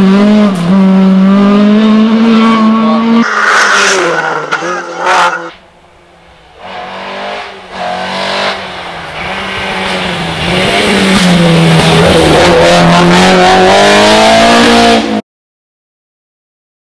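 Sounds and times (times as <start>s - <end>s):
rally car engine at full throttle: 0.0s - 15.2s.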